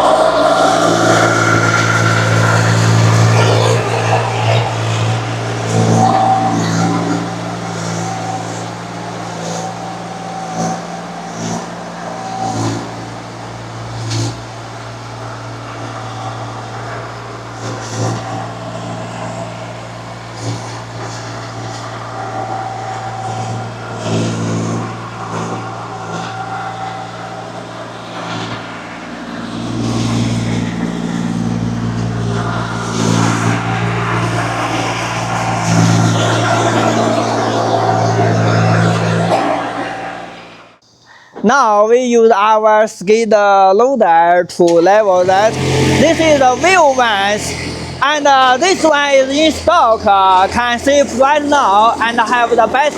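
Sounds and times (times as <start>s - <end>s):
small diesel engine running: 0.0s - 41.0s, 45.2s - 52.9s.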